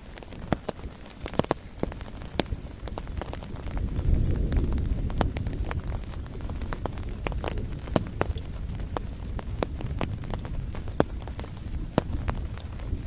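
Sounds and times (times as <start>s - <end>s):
raindrops tapping a hard surface: 0.0s - 13.0s
rumbling wash of rain: 0.0s - 13.0s.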